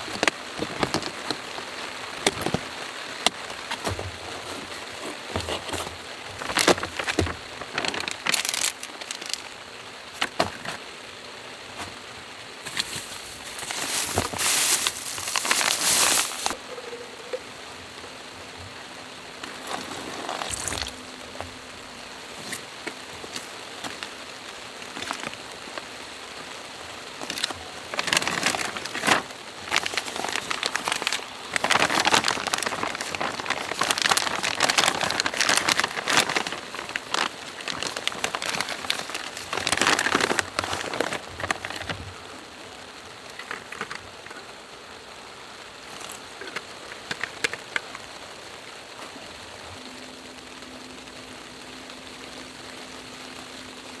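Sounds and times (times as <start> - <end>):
dense crackling crinkly noise: 0.0 - 54.0
steady rain falling: 0.0 - 54.0.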